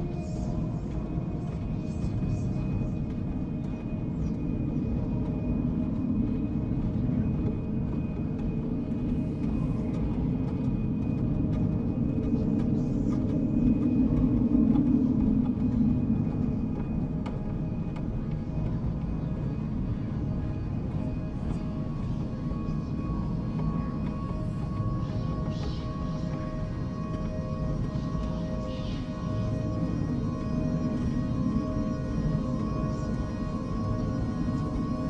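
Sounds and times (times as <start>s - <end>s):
dark ambient drone: 0.0s - 35.0s.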